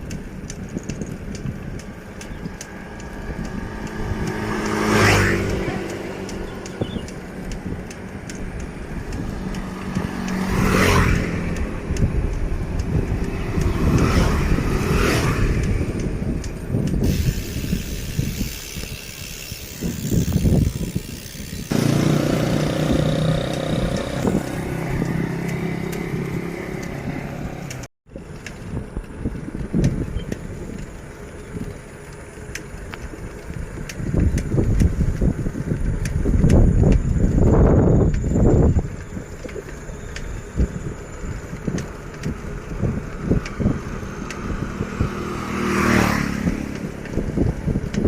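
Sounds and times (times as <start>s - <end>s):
motorbikes and cars passing: 0.0s - 48.0s
steady engine hum: 0.0s - 48.0s.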